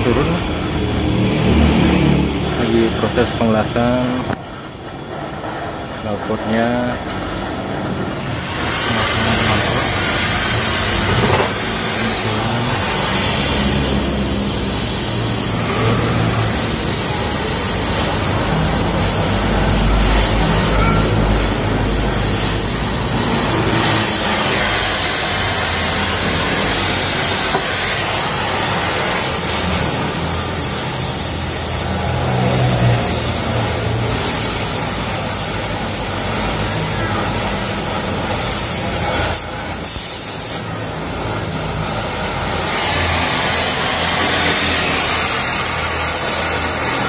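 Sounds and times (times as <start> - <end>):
low rumble of vehicle engines: 0.0 - 47.0
welding torch hissing: 0.0 - 47.0.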